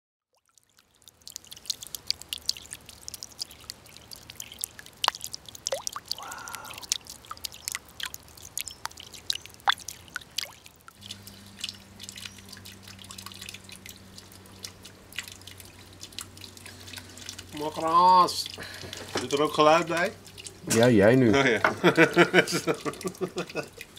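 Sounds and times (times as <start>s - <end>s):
water dripping into pool: 0.3s - 23.9s
low steady hum: 0.8s - 23.9s.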